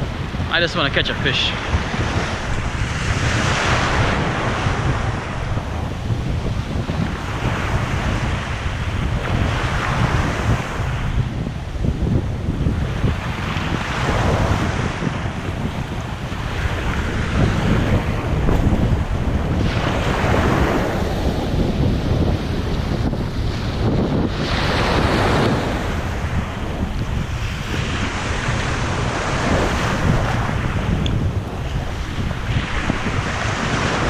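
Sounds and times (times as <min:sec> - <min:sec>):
surf breaking on a beach: 0:00.0 - 0:34.0
wind buffeting the microphone: 0:00.0 - 0:34.0.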